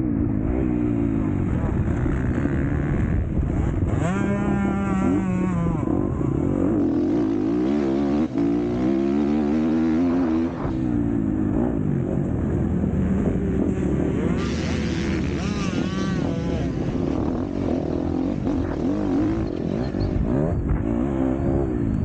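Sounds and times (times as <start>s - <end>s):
steady rushing noise: 0.0s - 21.2s
motocross bike engine revving: 0.0s - 22.0s.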